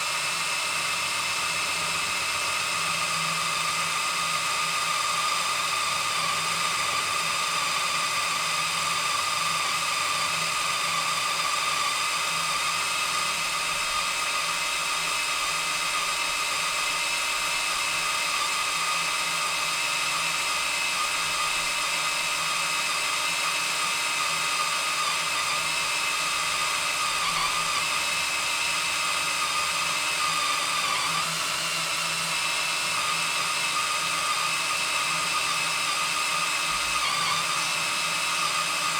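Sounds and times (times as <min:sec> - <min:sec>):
drill boring into steel: 0:00.0 - 0:38.9.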